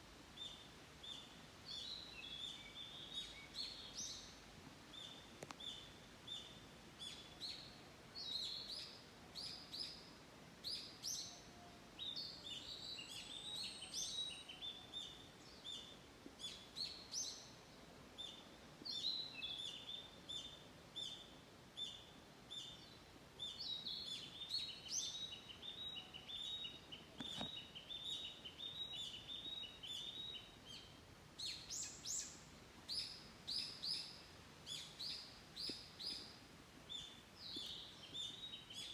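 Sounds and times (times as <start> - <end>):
small birds chirping: 0.3 - 38.9.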